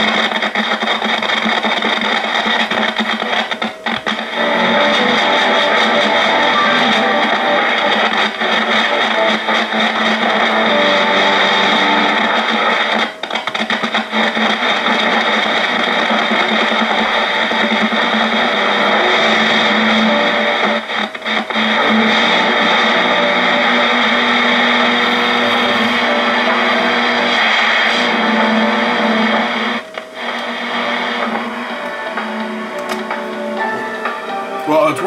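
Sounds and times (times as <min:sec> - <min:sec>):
radio crackling: 0:00.0 - 0:35.0
radio hiss and static: 0:00.0 - 0:35.0
steady radio tones: 0:00.0 - 0:35.0.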